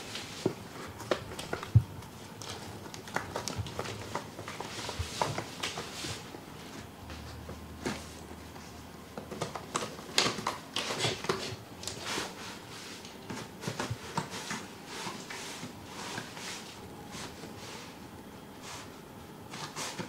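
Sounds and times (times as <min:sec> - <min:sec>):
cats scratching cardboard: 0:00.1 - 0:18.0, 0:18.6 - 0:20.0.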